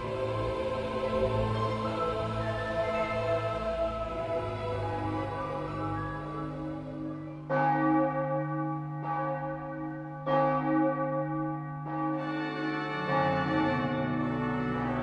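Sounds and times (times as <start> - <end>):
bells tolling: 0.0 - 15.0.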